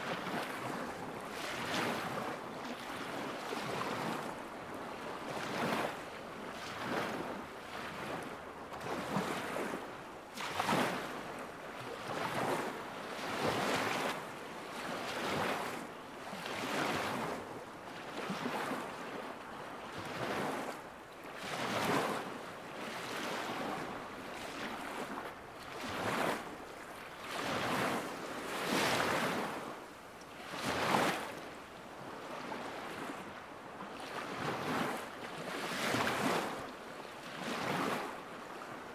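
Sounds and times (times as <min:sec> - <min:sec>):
waves lapping at shore: 0:00.0 - 0:38.9.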